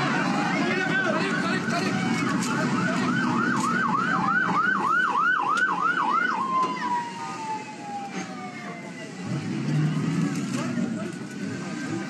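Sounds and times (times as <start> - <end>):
emergency vehicle siren: 0.0 - 12.0.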